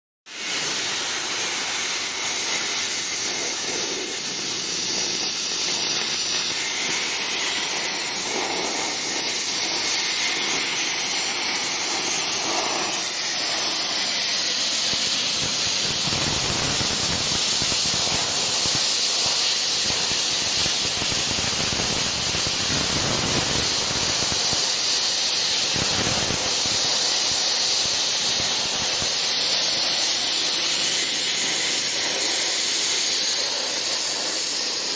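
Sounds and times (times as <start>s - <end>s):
plasma cutter hissing: 0.3s - 34.9s.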